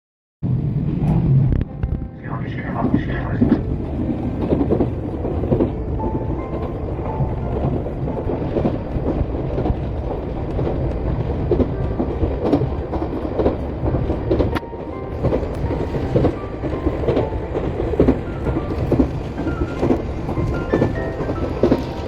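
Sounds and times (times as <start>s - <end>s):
electric train rumble: 0.4s - 22.0s
wheels clacking over rail joints: 3.4s - 22.0s.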